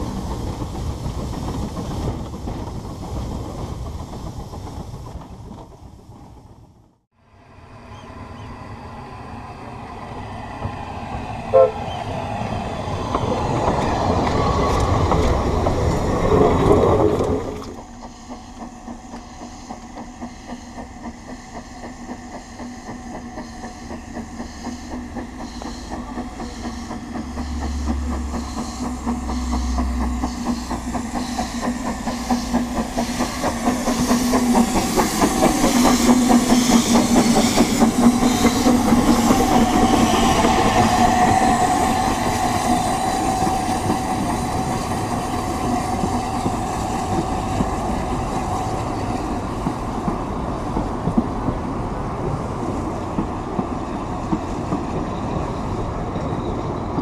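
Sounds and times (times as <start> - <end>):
steam locomotive exhaust beats: 0.0 - 6.8, 7.9 - 57.0.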